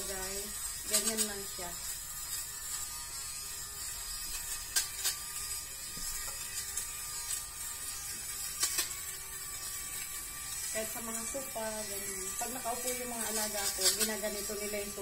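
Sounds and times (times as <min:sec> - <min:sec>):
lint remover motor humming: 0:00.0 - 0:15.0.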